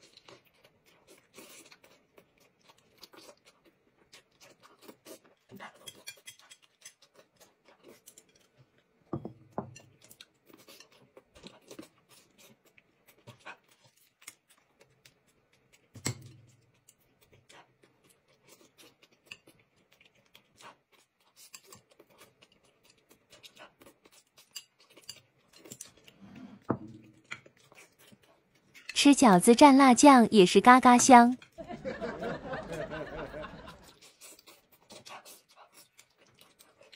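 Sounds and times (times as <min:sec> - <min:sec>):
soft chewing: 0:00.0 - 0:29.0, 0:31.4 - 0:36.9.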